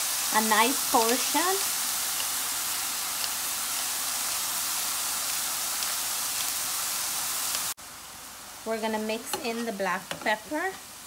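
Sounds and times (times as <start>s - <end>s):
mushrooms sizzling in a frying pan: 0.0s - 11.0s.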